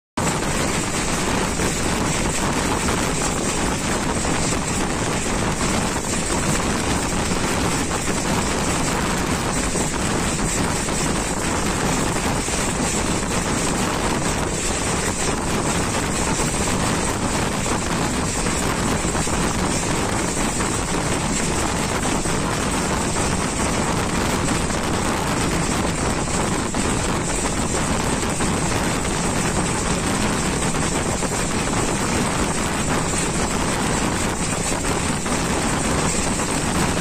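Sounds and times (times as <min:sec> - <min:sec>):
train wheels on rails: 0:00.2 - 0:37.0
wind rushing: 0:00.2 - 0:37.0.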